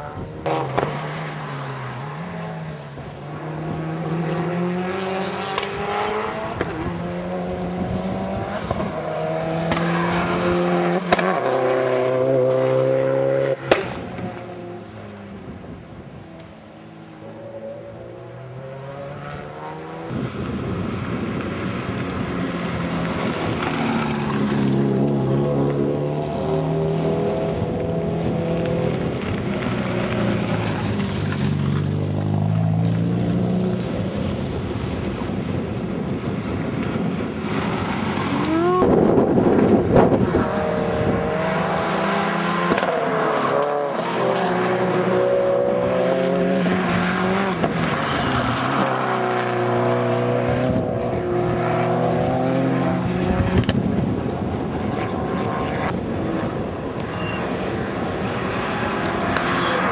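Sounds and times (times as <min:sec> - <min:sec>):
race car engines revving: 0:00.0 - 0:59.9
race car passing close: 0:00.1 - 0:14.9, 0:17.2 - 0:59.9.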